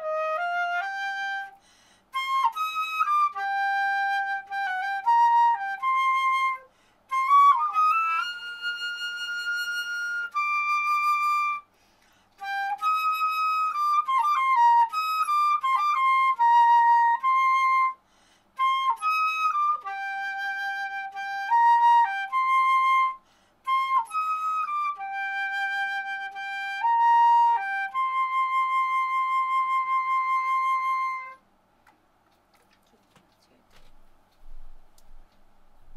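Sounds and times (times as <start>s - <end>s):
solo flute melody: 0.0s - 31.4s.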